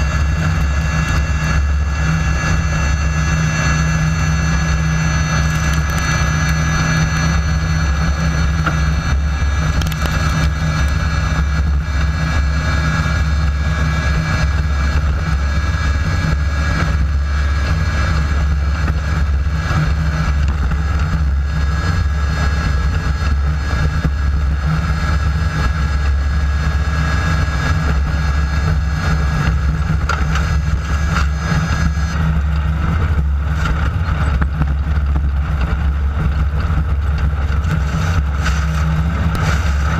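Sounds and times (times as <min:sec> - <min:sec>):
buggy engine running: 0:00.0 - 0:39.9.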